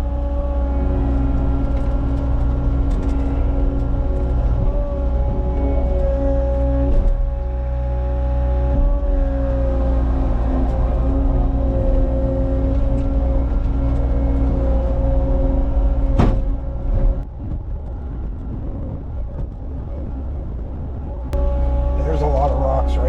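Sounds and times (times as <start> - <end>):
diesel engine running hard: 0.0 - 23.0.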